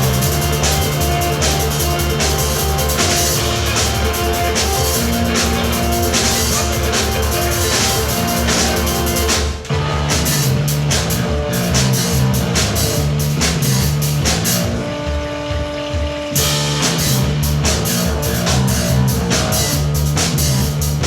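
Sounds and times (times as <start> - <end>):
bass line: 0.0 - 21.0
drum kit: 0.0 - 21.0
keyboards: 0.0 - 21.0.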